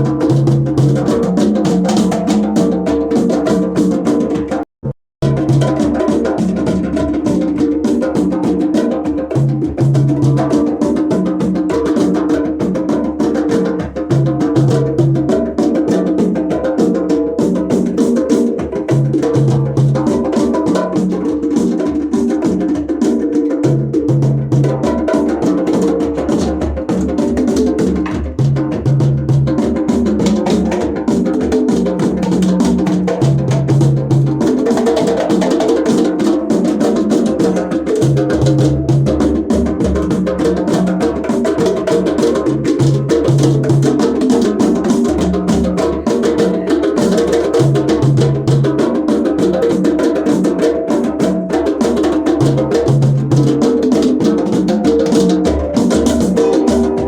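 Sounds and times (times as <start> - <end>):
fast drum strokes: 0.0 - 4.6, 5.2 - 57.0.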